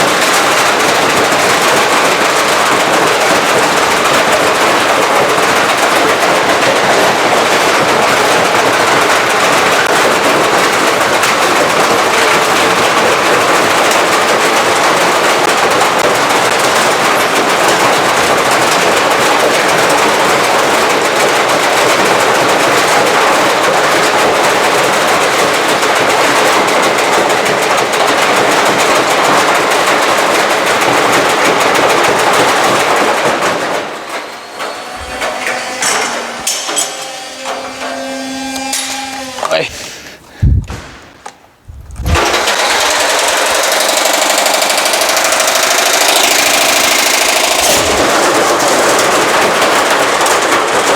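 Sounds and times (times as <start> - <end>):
washing machine spinning and rattling: 0.0 - 39.3, 41.5 - 50.9.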